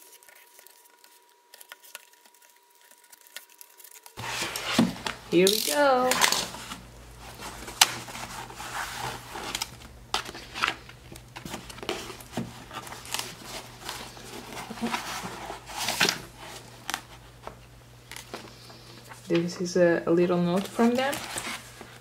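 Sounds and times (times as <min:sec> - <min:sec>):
cardboard scraping and rustling: 0:00.0 - 0:17.6, 0:20.6 - 0:22.0.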